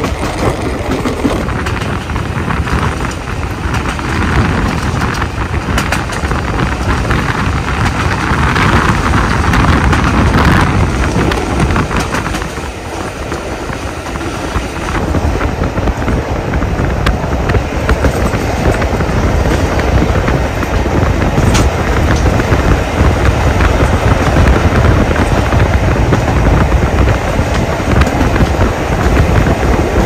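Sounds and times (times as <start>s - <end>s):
train rumbling on track: 0.0s - 30.0s
wind rushing over microphone: 0.0s - 30.0s.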